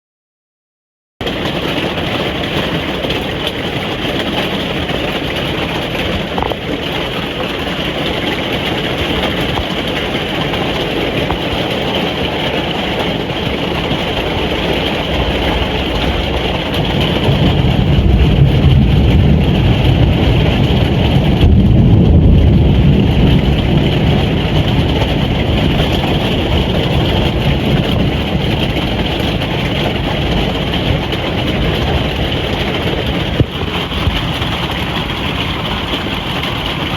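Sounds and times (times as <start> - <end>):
rain drumming on a roof: 1.2 - 36.9
deep rumble: 1.3 - 36.9.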